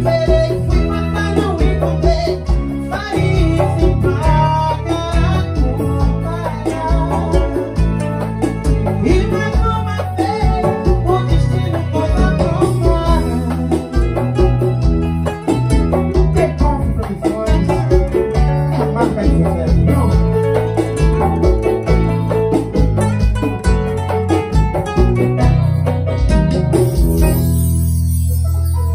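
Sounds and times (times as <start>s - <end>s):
bass guitar: 0.0s - 28.9s
electric guitar: 0.0s - 28.9s
hand percussion: 0.0s - 28.9s
keyboard: 0.0s - 28.9s.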